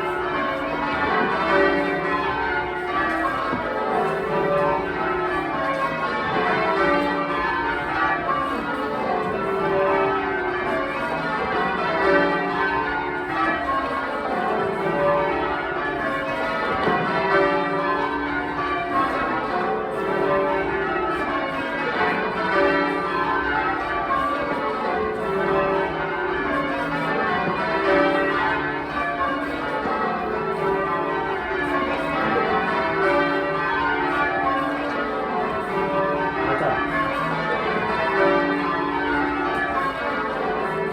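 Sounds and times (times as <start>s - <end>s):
church bells ringing in rounds: 0.0s - 40.9s.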